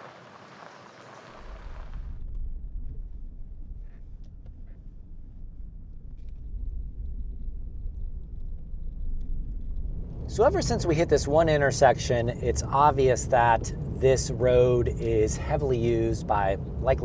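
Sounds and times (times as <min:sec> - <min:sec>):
vehicle road rumble: 0:00.0 - 0:17.0.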